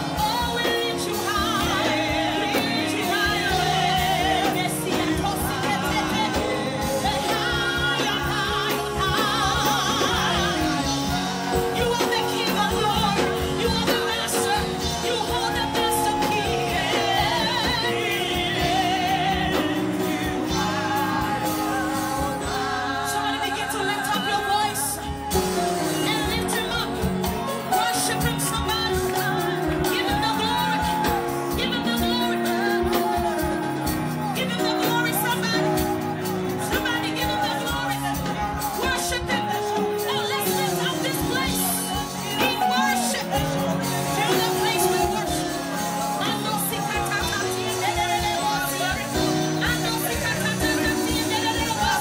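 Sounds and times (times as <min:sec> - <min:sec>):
drums: 0:00.0 - 0:52.0.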